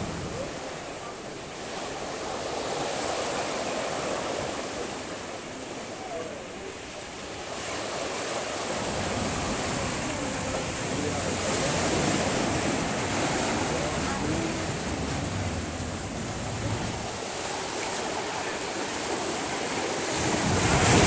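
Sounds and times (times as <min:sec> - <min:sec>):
small waves washing over concrete: 0:00.0 - 0:21.0.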